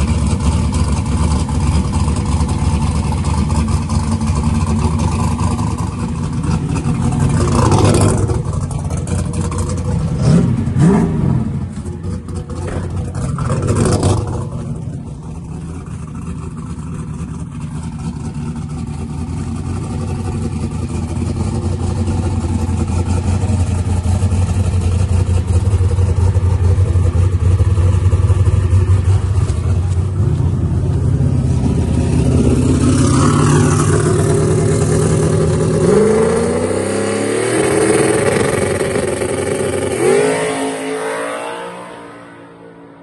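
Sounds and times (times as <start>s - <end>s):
drag car engine revving: 0.0s - 43.0s.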